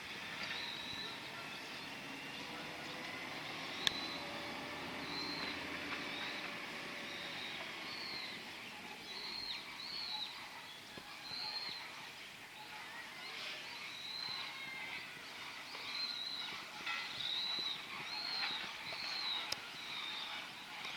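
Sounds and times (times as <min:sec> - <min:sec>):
birds chirping: 0:00.0 - 0:20.9
outdoor background noise: 0:00.0 - 0:20.9.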